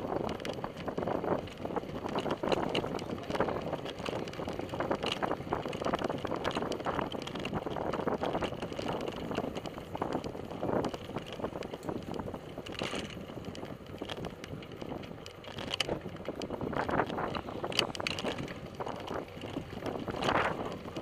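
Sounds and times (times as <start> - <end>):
bicycle tyre and road noise: 0.0 - 21.0
bike rattles and clicks: 0.0 - 21.0
wind buffeting microphone: 0.0 - 21.0.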